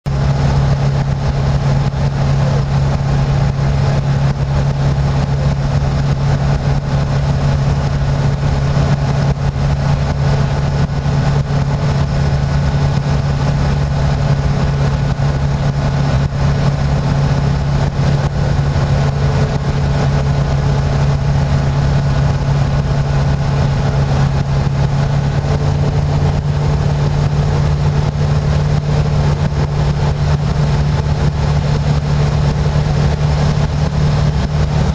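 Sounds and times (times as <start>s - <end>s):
aircraft engine and propeller humming: 0.1s - 34.9s.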